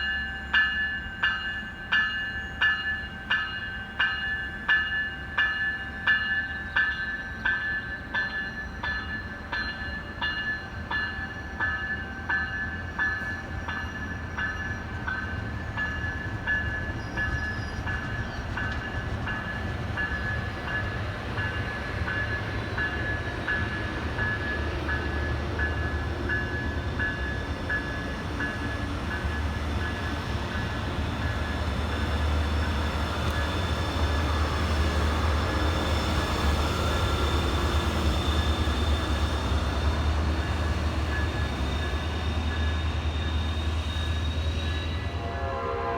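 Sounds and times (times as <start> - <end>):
railroad crossing bell dinging: 0.0 - 45.9
train rumbling: 0.0 - 45.9.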